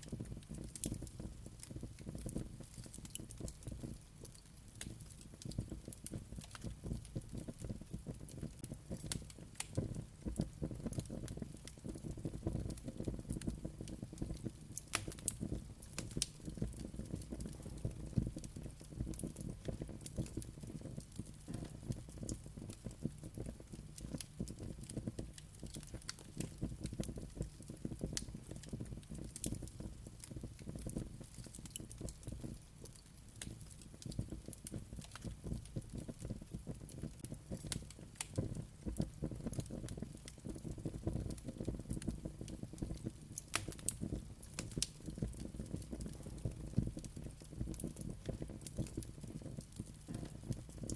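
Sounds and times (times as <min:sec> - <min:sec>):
low rumble of flames: 0:00.0 - 0:50.9
wood fire crackling and popping: 0:00.0 - 0:50.9.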